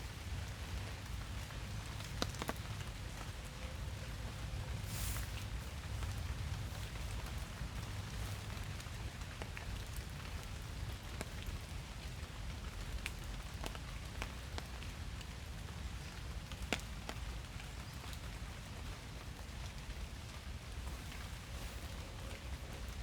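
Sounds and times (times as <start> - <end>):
raindrops ticking: 0.0 - 4.8, 5.4 - 23.0
steady rain hiss: 0.0 - 23.0.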